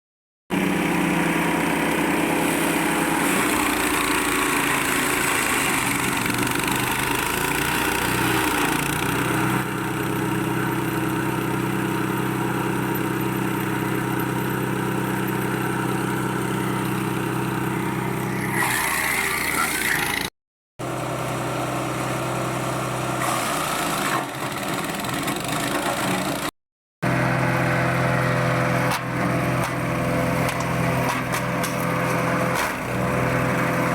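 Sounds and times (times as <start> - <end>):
wood chipper engine running: 0.5 - 33.9.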